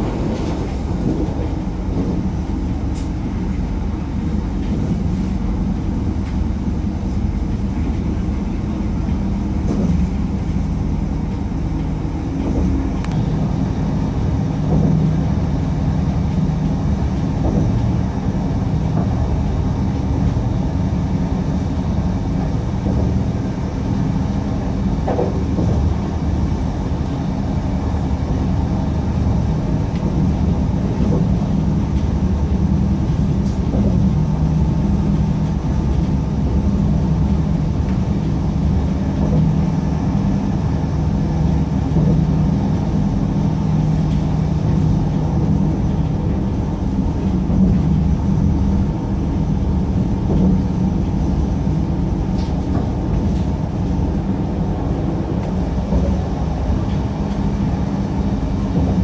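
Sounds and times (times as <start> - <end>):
low hum: 0.0 - 59.0
wheels rumbling on rail: 0.0 - 59.0.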